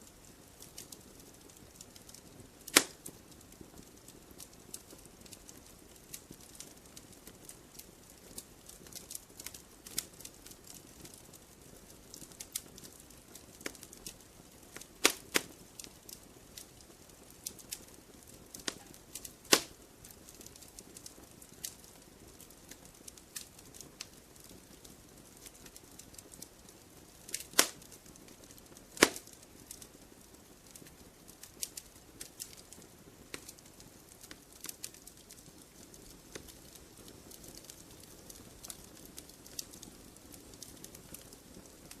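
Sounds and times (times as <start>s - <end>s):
wood fire crackling: 0.0s - 42.0s
loud fire pops: 0.5s - 11.2s, 11.9s - 26.5s, 27.1s - 30.0s, 30.6s - 42.0s.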